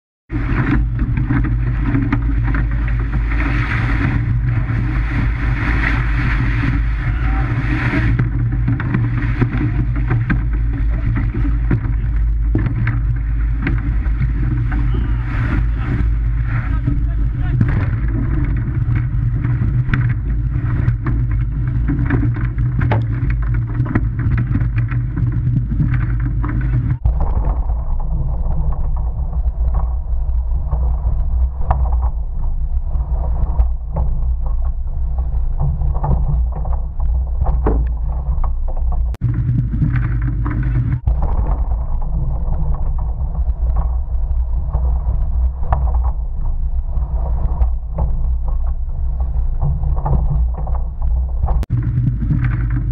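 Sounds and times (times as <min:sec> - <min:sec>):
rushing wind and water: 0:00.3 - 0:52.9.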